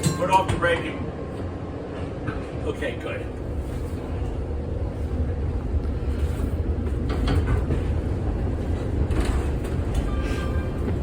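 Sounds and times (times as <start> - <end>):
streetcar motors and wheels rumbling: 0.0 - 11.0.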